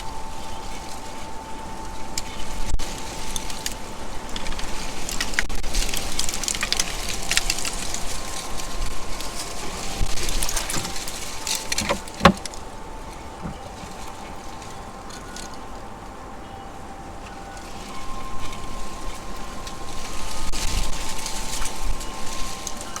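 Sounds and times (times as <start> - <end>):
squirrels gnawing and scrabbling: 0.0 - 23.0.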